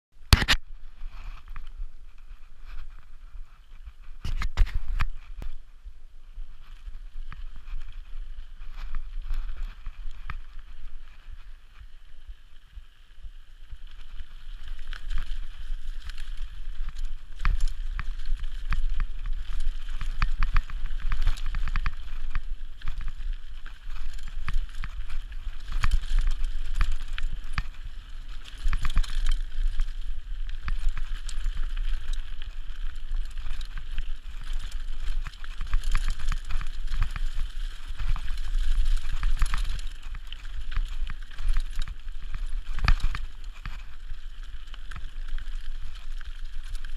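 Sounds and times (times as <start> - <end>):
wind rumbling on microphone: 0.1 - 46.9
bike rattling over bumps: 6.3 - 46.9.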